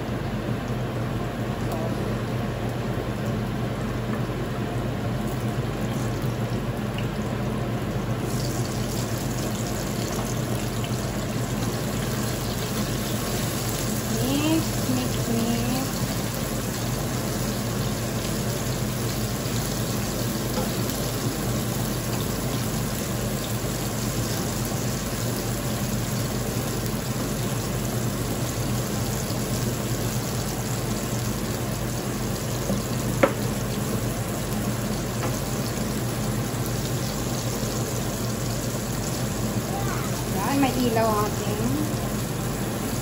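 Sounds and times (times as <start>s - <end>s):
exhaust fan hum: 0.0s - 43.0s
food sizzling in a frying pan: 1.5s - 43.0s.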